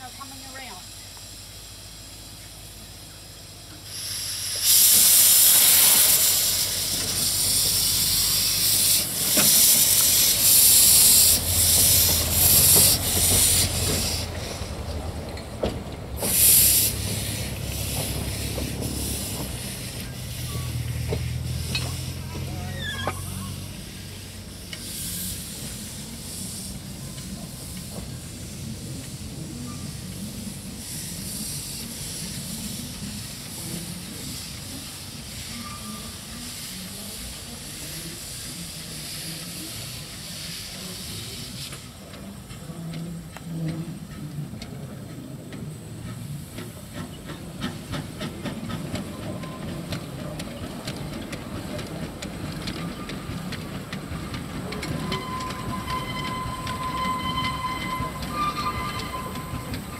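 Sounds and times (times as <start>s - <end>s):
loud steam hiss: 0.0s - 59.9s
steam locomotive hissing steam: 0.0s - 59.9s.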